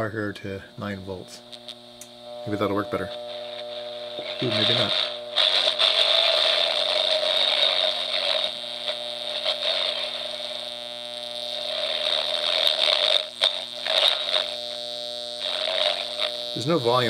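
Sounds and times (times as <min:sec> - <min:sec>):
distorted buzz and crackle: 0:00.0 - 0:17.0
mains hum: 0:00.0 - 0:17.0.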